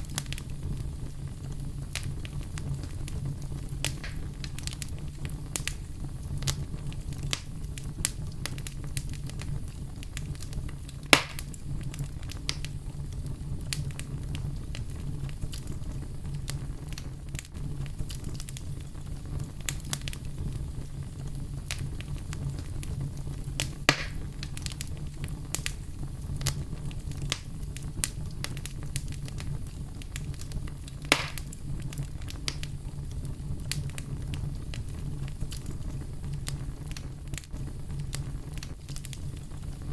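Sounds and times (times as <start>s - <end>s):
loud fire pops: 0.0s - 39.9s
wood fire crackling: 0.0s - 39.9s.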